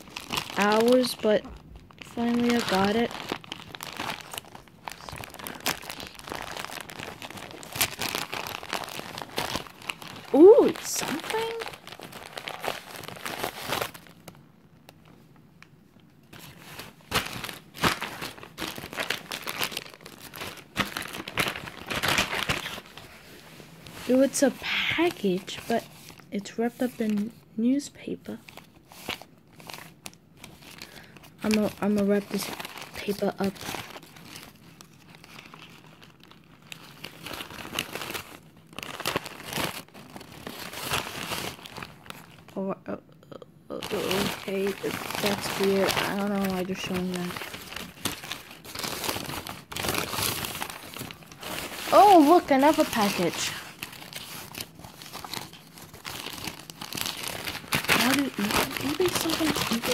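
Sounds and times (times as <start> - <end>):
package wrapping crinkling: 0.0 - 27.3, 28.4 - 42.6, 43.7 - 59.9.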